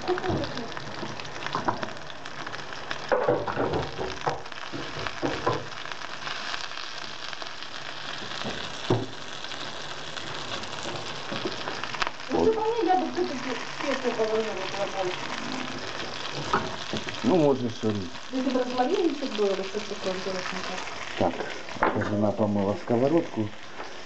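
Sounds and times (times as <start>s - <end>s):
fish patties sizzling in oil: 0.0s - 24.0s.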